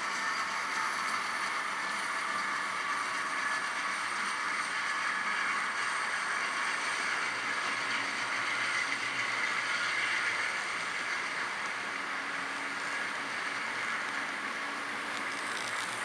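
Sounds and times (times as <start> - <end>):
coal train running: 0.0 - 16.0.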